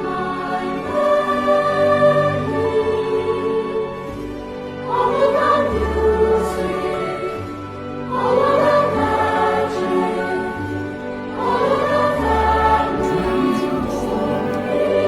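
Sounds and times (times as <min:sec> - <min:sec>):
background music with choir: 0:00.0 - 0:15.0.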